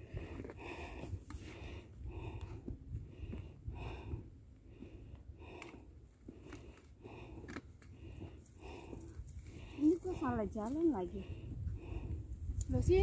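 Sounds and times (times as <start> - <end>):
person panting hard: 0.0 - 10.1, 11.2 - 12.4.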